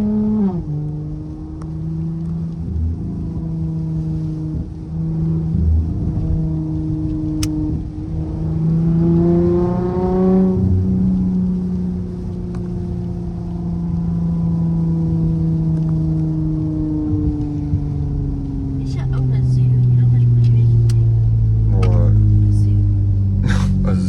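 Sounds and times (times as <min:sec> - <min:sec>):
car exhaust engine note: 0:00.0 - 0:24.0.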